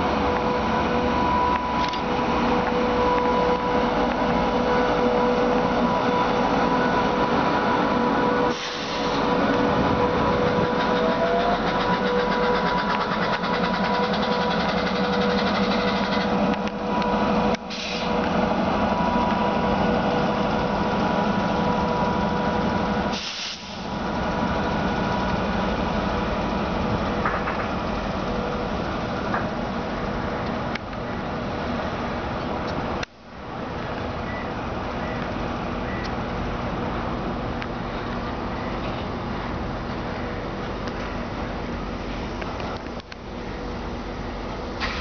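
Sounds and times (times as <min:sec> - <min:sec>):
locomotive compressor whine: 0:00.0 - 0:45.0
train wheels on rail: 0:00.0 - 0:45.0.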